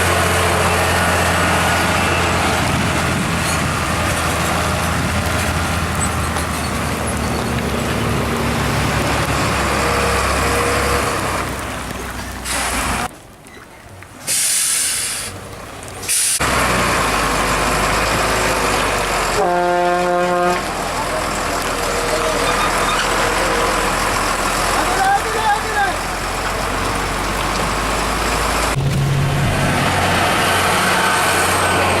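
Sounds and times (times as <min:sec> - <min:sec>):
truck engine running: 0:00.0 - 0:13.1, 0:16.4 - 0:32.0
road noise rumble: 0:00.0 - 0:32.0.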